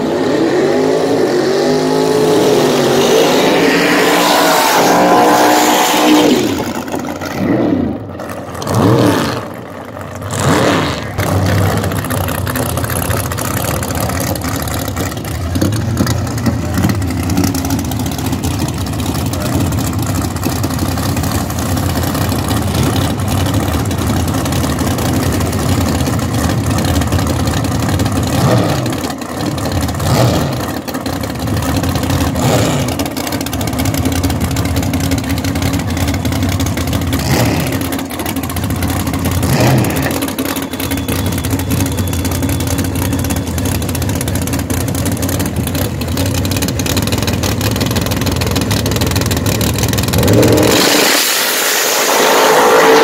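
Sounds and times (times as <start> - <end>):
engines revving: 0.0 - 53.0
drag racing engines idling roughly: 6.3 - 52.5.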